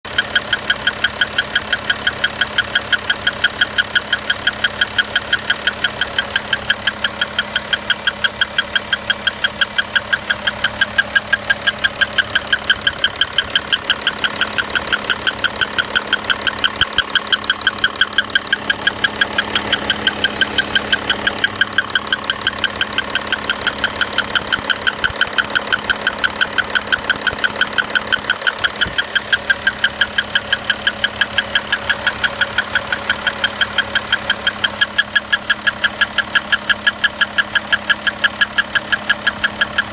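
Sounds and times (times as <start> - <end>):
diesel engine running: 0.0 - 39.9
rapid ticking engine knock: 0.0 - 39.9.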